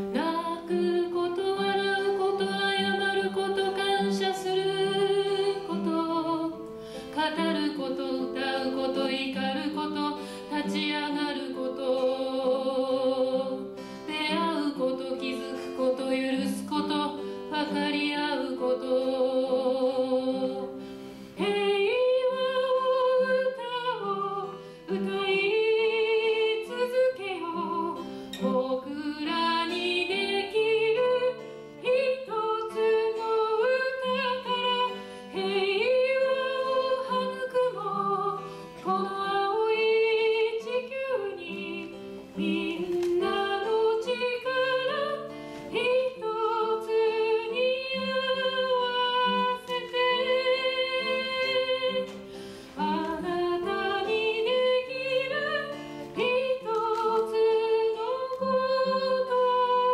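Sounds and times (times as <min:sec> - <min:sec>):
acoustic guitar: 0:00.0 - 0:59.9
woman singing: 0:00.0 - 0:59.9.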